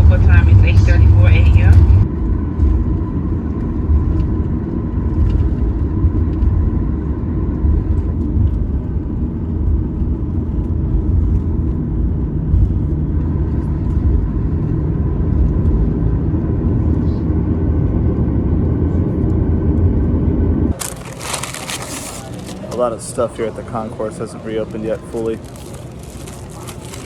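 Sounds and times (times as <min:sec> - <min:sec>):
low hum: 0:00.0 - 0:22.6
faint steady hum: 0:00.0 - 0:27.0
vehicle rumble: 0:00.0 - 0:27.0.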